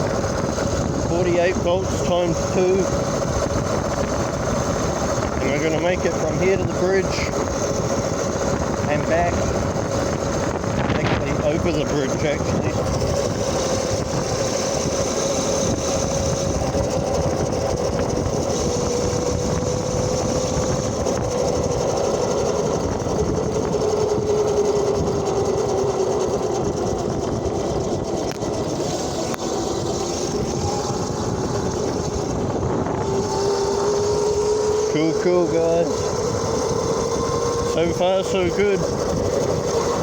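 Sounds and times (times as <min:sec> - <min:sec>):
electric motor whine: 0:00.0 - 0:40.0
higher whine: 0:00.0 - 0:40.0
steady rushing noise: 0:00.0 - 0:40.0.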